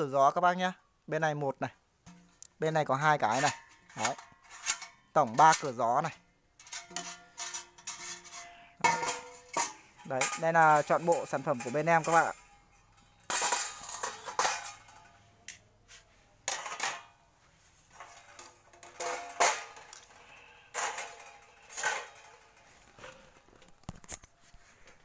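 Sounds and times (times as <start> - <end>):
metal grill parts clinking: 2.1 - 15.6, 16.4 - 17.2, 17.9 - 24.3.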